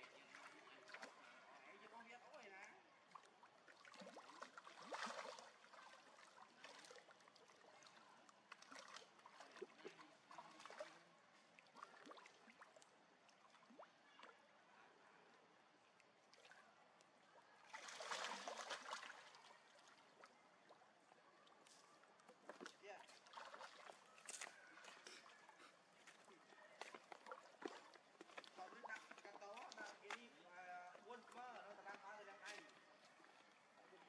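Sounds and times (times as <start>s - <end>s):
water splashing in a pool: 0.0s - 34.0s.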